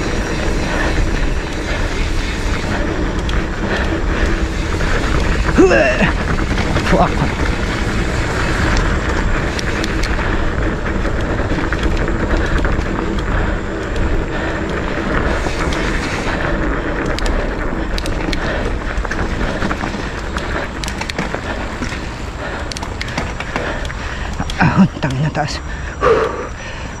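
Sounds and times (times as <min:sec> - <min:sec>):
bike clicks and rattles: 0:00.0 - 0:27.0
bike tyres on dirt trail: 0:00.0 - 0:27.0
wind buffeting microphone: 0:00.0 - 0:27.0.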